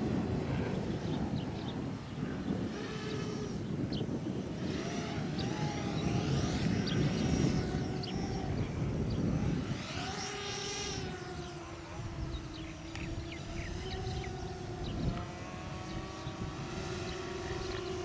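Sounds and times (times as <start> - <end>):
model aeroplane engine droning: 0.0 - 18.0
wind rumble on microphone: 0.0 - 18.0.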